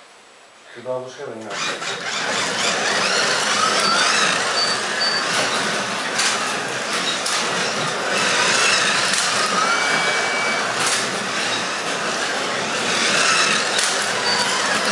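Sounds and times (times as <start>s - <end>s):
slot car motors whining: 1.4s - 14.9s
cars rattling in plastic track: 1.5s - 14.9s.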